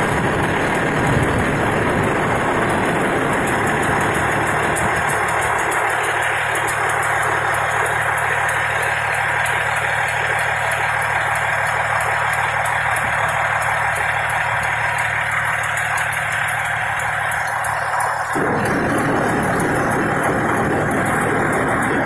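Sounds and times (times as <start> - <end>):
diesel engine idling: 0.0 - 22.0
light regular ticking: 0.0 - 22.0.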